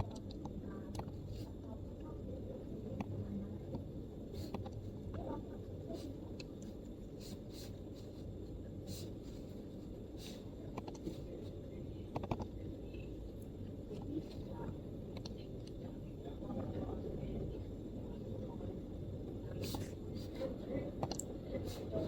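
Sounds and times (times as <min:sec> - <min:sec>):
low room murmur: 0:00.0 - 0:22.0.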